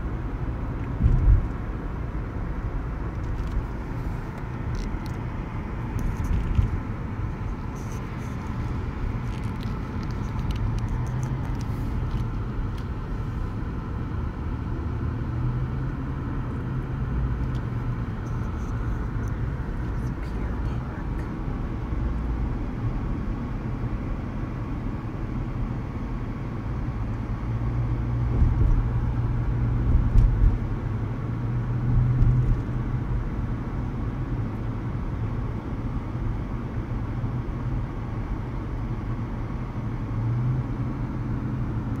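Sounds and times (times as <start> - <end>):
car engine and road rumble: 0.0 - 42.0.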